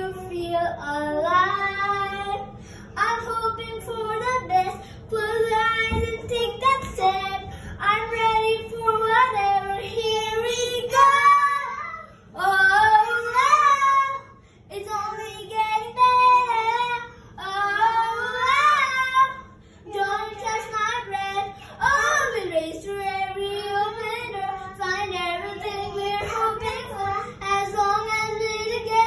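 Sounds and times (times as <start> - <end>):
girl singing a pop song: 0.0 - 29.0.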